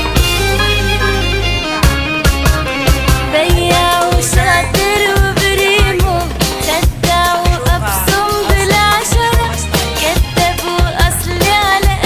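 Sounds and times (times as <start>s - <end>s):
song with vocals and beat: 0.0s - 12.0s.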